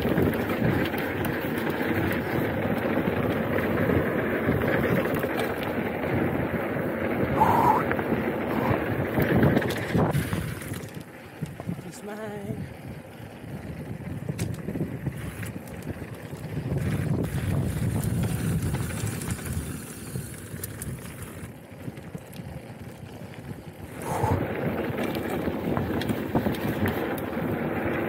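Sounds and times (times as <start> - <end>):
wind buffeting microphone: 0.0 - 22.2, 23.0 - 28.0
mountain bike rolling downhill: 0.0 - 28.0.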